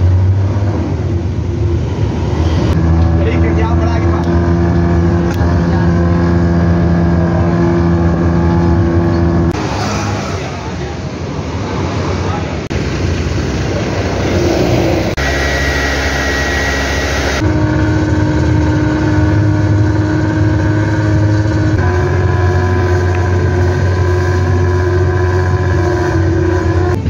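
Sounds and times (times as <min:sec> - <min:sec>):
diesel bus engine droning: 0:00.0 - 0:27.0.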